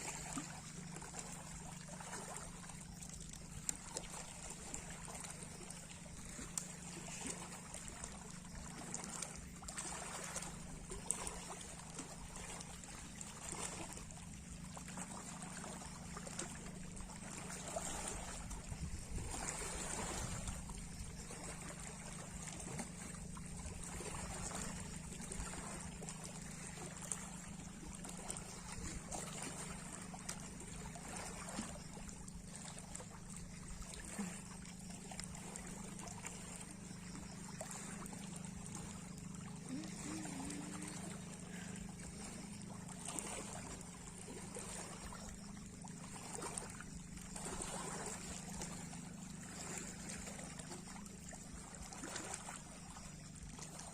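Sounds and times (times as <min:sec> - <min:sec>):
sea waves lapping: 0:00.0 - 0:53.9
steady low hum: 0:00.0 - 0:53.9.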